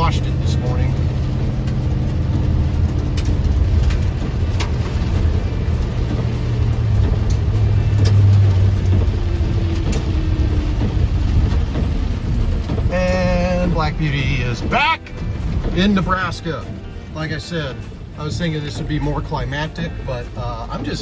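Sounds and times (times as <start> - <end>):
engine and road drone: 0.0 - 21.0
rain on glass: 0.0 - 21.0.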